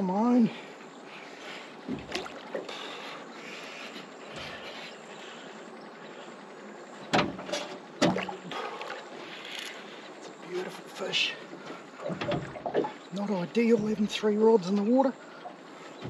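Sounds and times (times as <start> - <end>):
wind and water hiss: 0.0 - 16.0.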